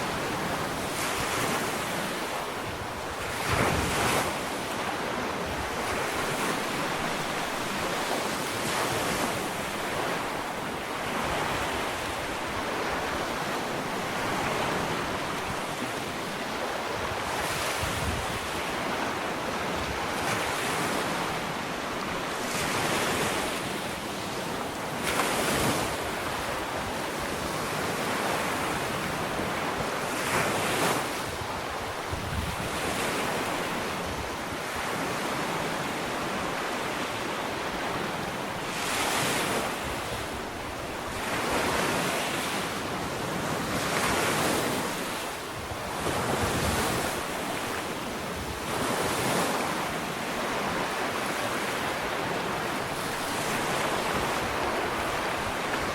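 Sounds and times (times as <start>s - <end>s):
ocean waves washing onto beach: 0.0s - 55.9s.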